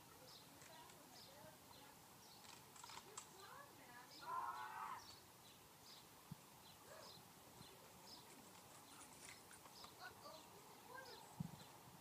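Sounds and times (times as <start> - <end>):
small bird chirping: 0.1 - 11.8.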